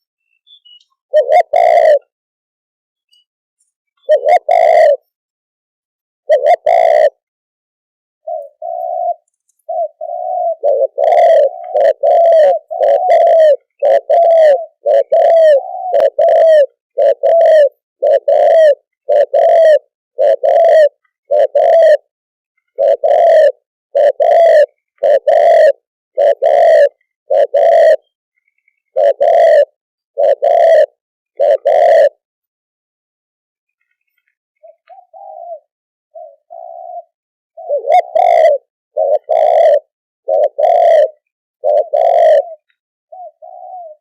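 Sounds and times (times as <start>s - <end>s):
dove cooing: 1.1s - 2.1s, 4.0s - 5.2s, 6.3s - 7.2s, 8.2s - 28.2s, 28.8s - 32.2s, 34.6s - 44.0s.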